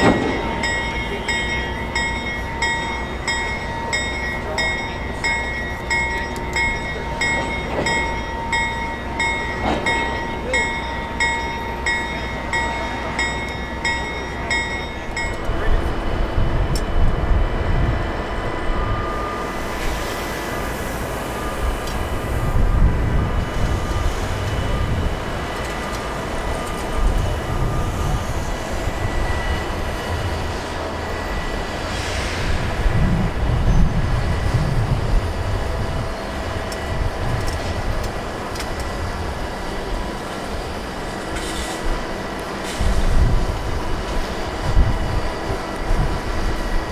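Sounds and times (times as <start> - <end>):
crane diesel engine and hydraulics drone: 0.0 - 46.9.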